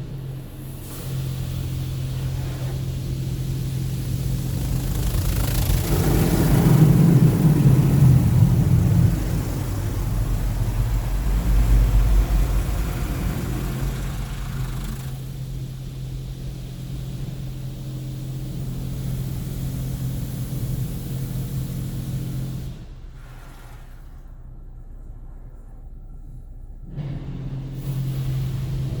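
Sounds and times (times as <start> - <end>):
car wash spraying water: 0.0 - 24.7, 26.9 - 29.0
steady low hum: 0.0 - 29.0.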